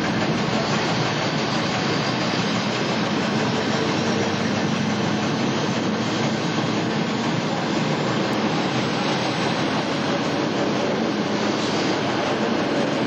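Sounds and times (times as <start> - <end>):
diesel railcar running: 0.0 - 13.0.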